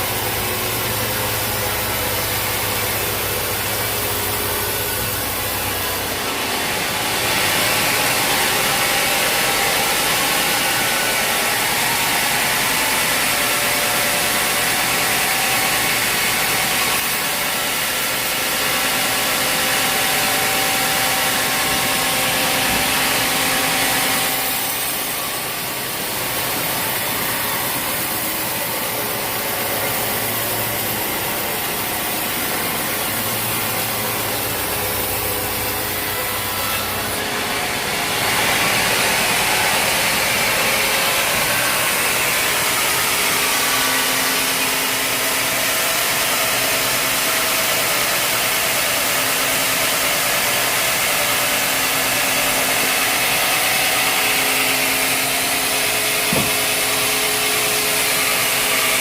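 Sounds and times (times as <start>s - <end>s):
engine running: 0.0s - 59.0s
saw rasping through log: 0.0s - 59.0s.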